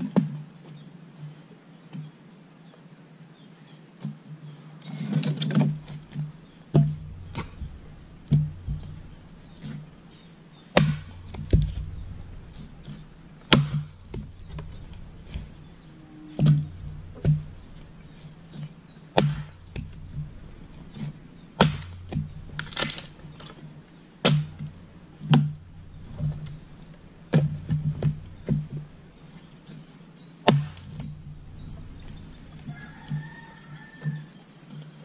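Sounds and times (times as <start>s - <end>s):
blade striking log: 5.2s - 33.4s.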